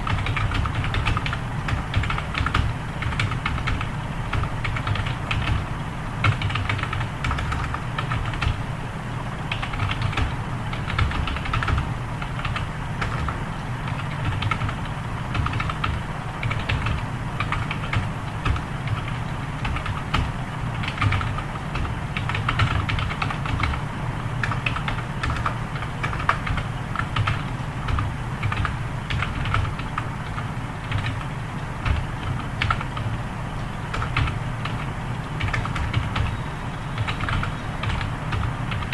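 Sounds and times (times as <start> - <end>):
fast typing on keyboard: 0.0 - 8.7, 9.5 - 36.4, 37.0 - 38.9
low steady hum: 0.0 - 38.9.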